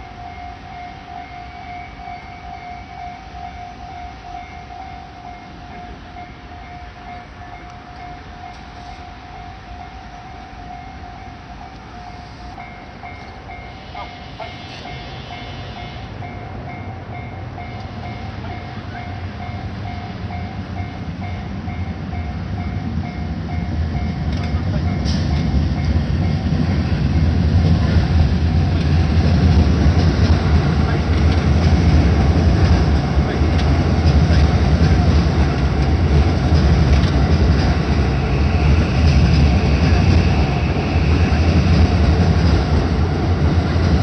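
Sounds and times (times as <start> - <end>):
electric train rumble: 0.0 - 44.0.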